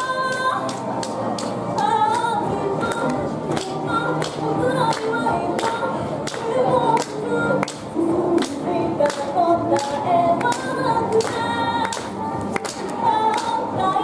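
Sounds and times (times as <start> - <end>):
woman singing into microphone: 0.0 - 1.0, 1.7 - 14.0
music with steady beat: 0.0 - 14.0.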